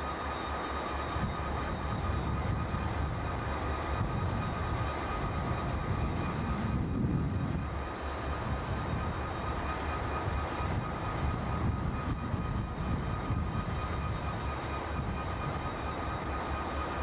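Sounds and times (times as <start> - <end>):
locomotive engine rumble: 0.0 - 17.0.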